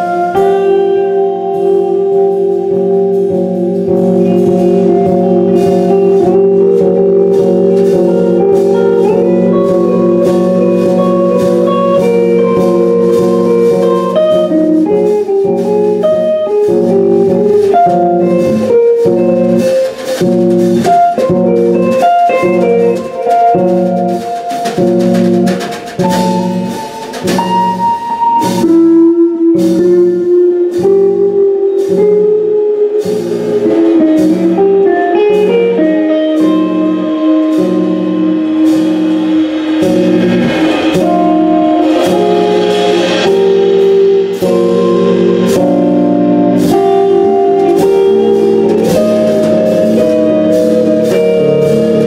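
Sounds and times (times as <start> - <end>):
live band playing jazzy music: 0.0 - 52.0.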